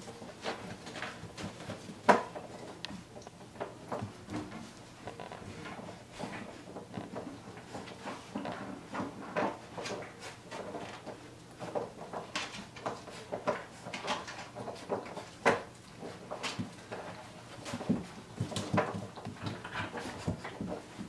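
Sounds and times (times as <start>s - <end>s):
puppies chewing plastic basket: 0.0s - 21.0s.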